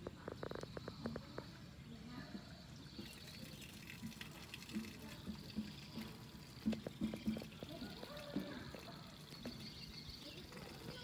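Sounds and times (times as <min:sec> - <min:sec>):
pool water trickling and lapping: 0:00.0 - 0:11.0.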